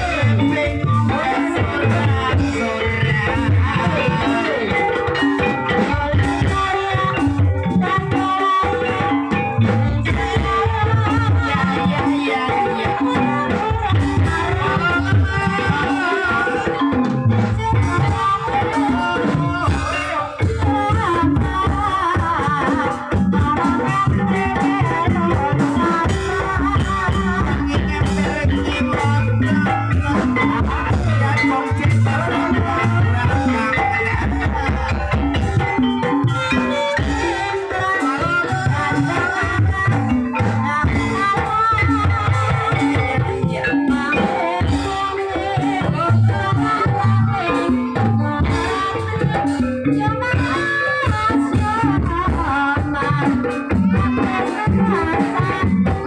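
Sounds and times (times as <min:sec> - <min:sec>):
jingling rattle percussion: 0:00.0 - 0:56.0
wavering melody: 0:00.0 - 0:56.0.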